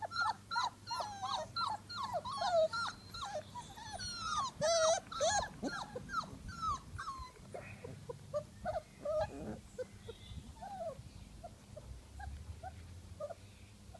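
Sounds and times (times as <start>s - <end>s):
puppies whimpering and yipping: 0.0s - 13.4s.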